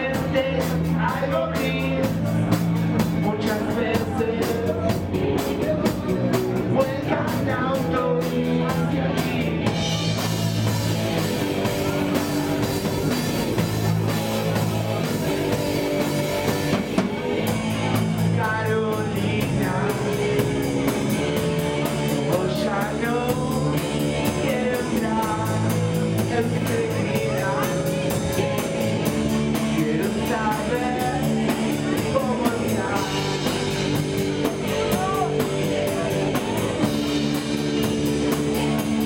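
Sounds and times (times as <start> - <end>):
distorted electric guitar: 0.0 - 39.0
drum kit with fast cymbal beat: 0.0 - 39.0
man singing: 0.0 - 39.0.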